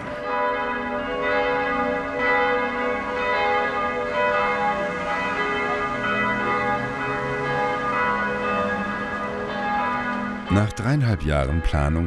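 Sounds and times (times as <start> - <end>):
church bells pealing: 0.0 - 12.0.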